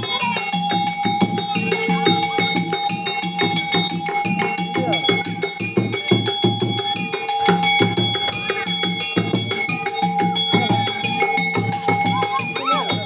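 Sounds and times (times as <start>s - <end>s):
hand drum beating: 0.0s - 13.0s
small bell-like metal notes: 0.0s - 13.0s.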